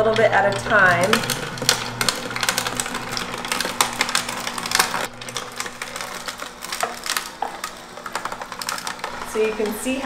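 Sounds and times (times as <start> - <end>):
juicer motor hum: 0.0 - 10.0
nuts and fruit cracking: 1.2 - 9.4.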